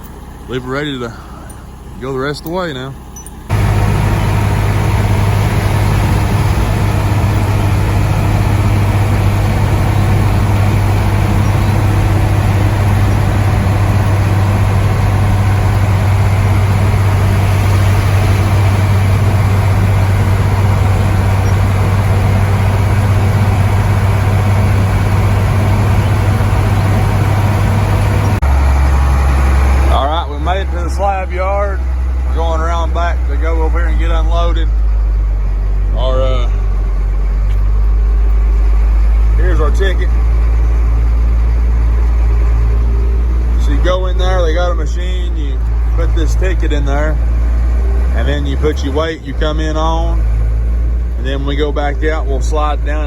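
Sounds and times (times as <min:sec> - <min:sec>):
road noise: 0:00.0 - 0:53.0
truck engine running: 0:00.0 - 0:53.0.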